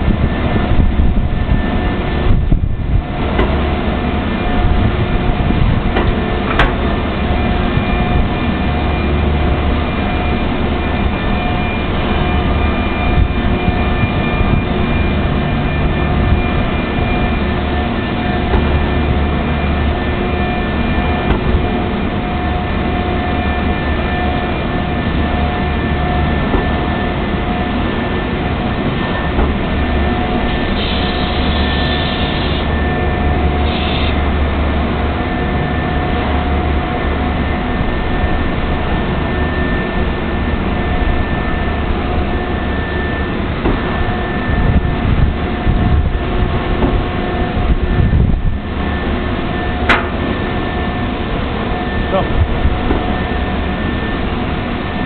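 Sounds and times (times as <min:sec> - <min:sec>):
train-washing machine running: 0:00.0 - 0:55.0.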